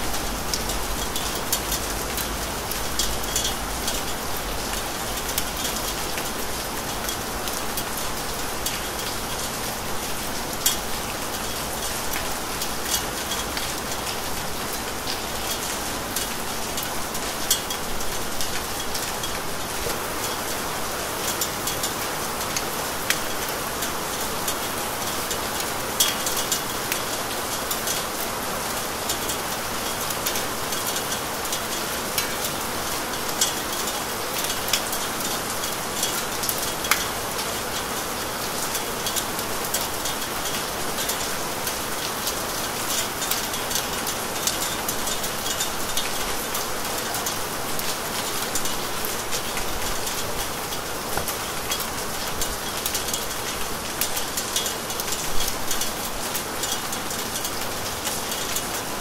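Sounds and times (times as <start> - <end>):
raindrops ticking on surfaces: 0.0 - 59.0
steady rain falling: 0.0 - 59.0.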